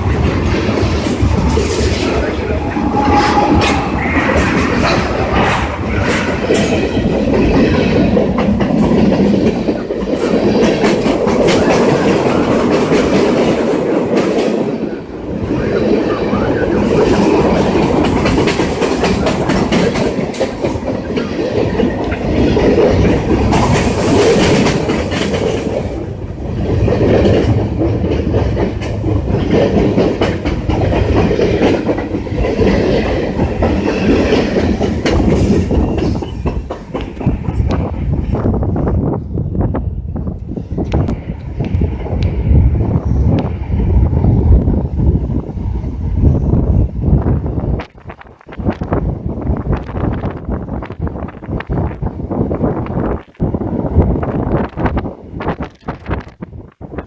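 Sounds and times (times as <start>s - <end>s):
train rumble: 0.0s - 57.0s
wheels clickety-clack over rail joints: 0.0s - 57.0s.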